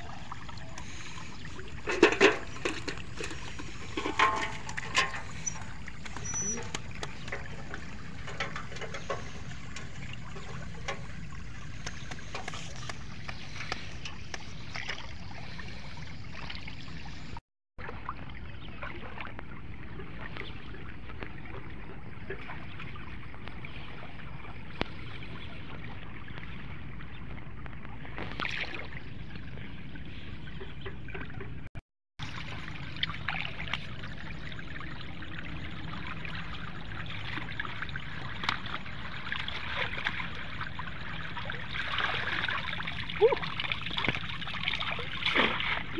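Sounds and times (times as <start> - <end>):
water trickling and sloshing: 0.0 - 45.9.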